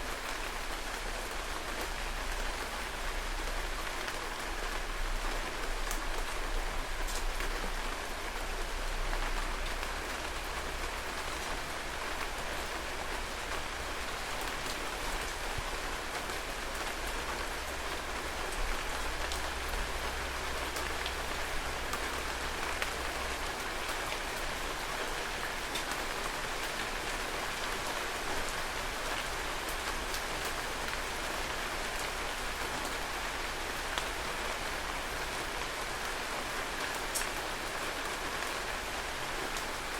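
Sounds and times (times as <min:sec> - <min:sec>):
heavy rain falling: 0:00.0 - 0:39.9
raindrops pattering on surfaces: 0:00.0 - 0:39.9.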